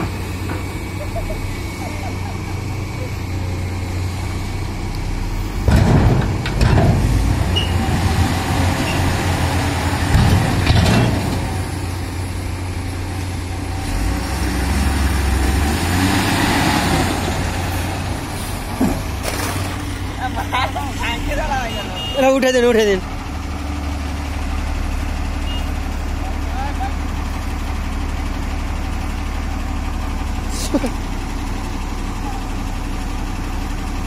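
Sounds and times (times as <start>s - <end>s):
heavy diesel engines running: 0.0s - 34.0s.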